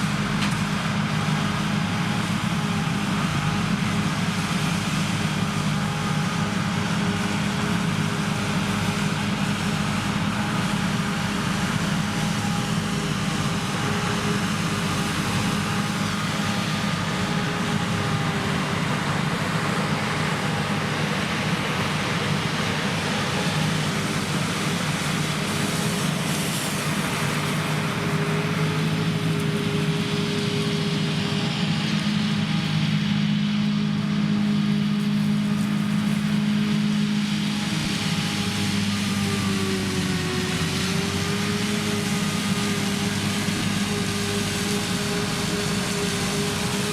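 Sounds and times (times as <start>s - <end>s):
forage harvester mechanical drone: 0.0s - 46.9s.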